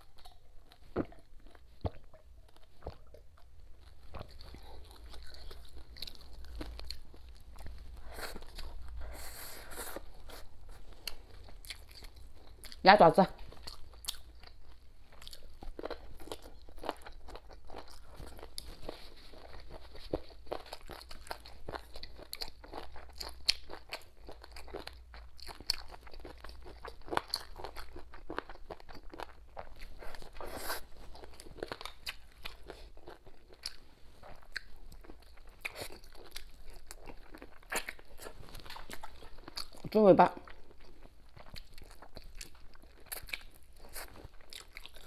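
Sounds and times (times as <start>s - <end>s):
wet chewing clicks and crunches: 0.0s - 8.9s, 10.4s - 30.5s, 31.1s - 45.0s.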